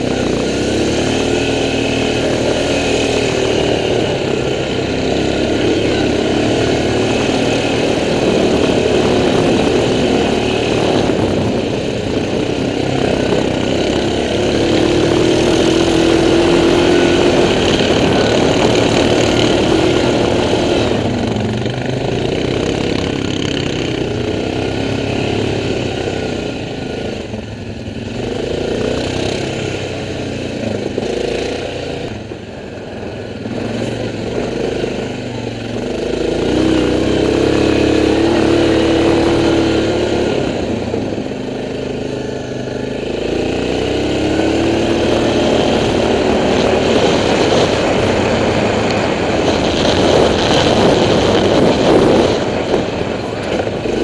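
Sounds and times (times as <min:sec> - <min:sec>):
quad engine under load: 0:00.0 - 0:54.0.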